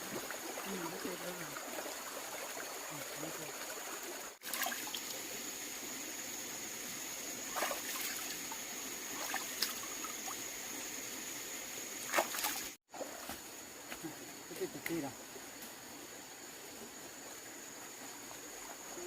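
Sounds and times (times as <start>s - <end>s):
trickle of running water: 0.0s - 19.0s.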